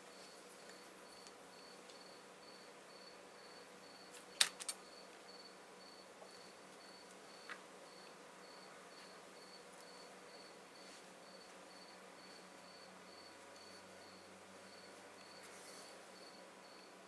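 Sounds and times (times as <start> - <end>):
cricket chirping: 0.2 - 4.1, 4.8 - 15.4, 16.2 - 16.9.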